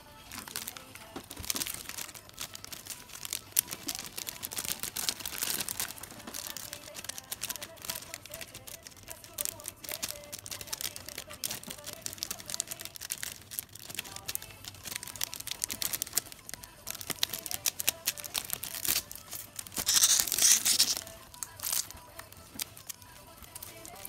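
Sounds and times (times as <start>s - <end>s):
plastic sleeve crinkling: 0.0s - 24.0s.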